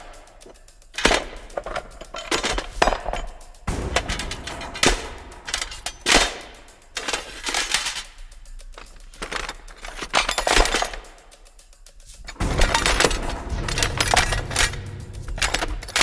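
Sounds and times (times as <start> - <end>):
metal clanks: 0.0 - 16.0.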